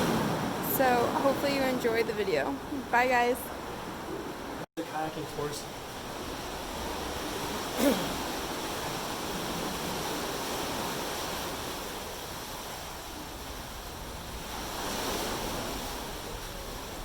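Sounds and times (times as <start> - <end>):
ocean surf washing in: 0.0 - 17.0.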